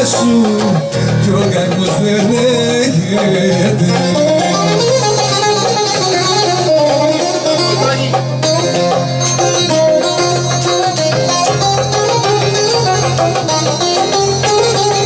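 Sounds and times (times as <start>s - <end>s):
bass line: 0.0s - 15.0s
bouzouki melody: 0.0s - 15.0s
drum strokes: 0.0s - 15.0s
guitar accompaniment: 0.0s - 15.0s
keyboard accompaniment: 0.0s - 15.0s.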